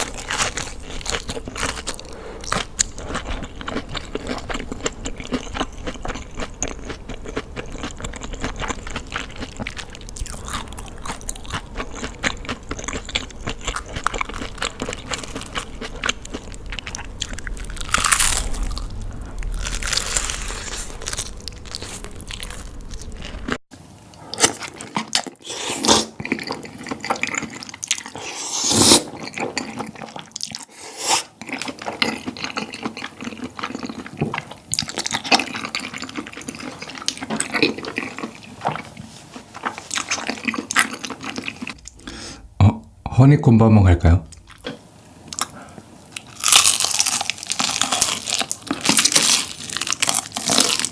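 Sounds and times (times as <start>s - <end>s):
crunchy chewing of food: 0.0s - 42.2s, 44.3s - 50.9s.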